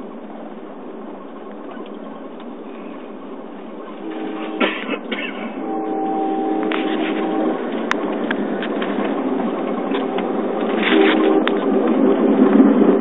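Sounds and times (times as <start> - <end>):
steady whine: 0.0 - 13.0
train car rumble: 0.0 - 13.0.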